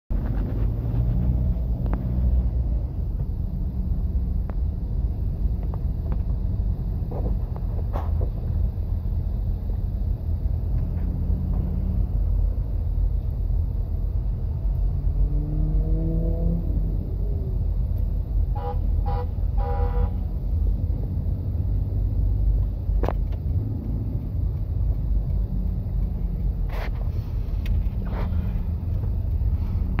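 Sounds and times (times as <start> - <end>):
car engine and road rumble: 0.1 - 30.0.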